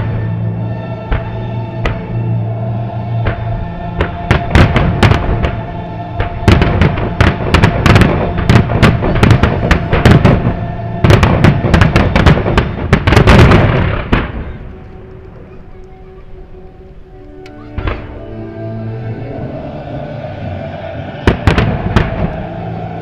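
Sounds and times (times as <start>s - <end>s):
music: 0.0s - 23.0s.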